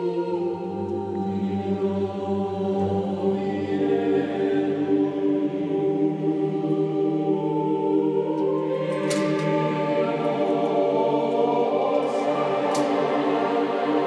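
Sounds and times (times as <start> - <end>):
monks chanting: 0.0 - 14.0.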